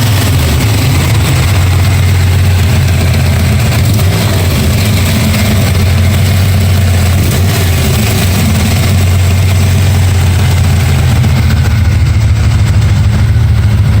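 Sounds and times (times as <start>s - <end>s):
engine idling: 0.0s - 14.0s
engine ticking: 0.0s - 14.0s.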